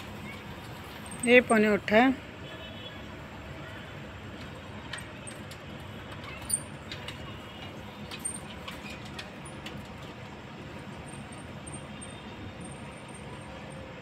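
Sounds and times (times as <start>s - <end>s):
low night street rumble: 0.0s - 14.0s.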